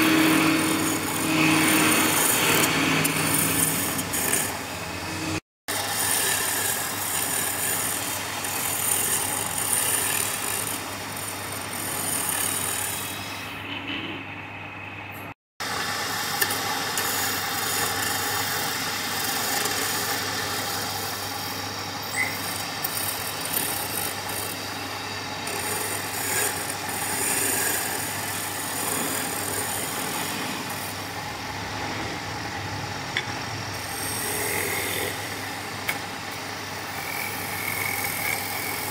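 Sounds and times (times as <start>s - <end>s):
lathe motor hum: 0.0s - 13.4s, 15.6s - 38.9s
tool scraping spinning wood: 0.0s - 13.6s, 15.6s - 32.4s, 33.2s - 38.9s.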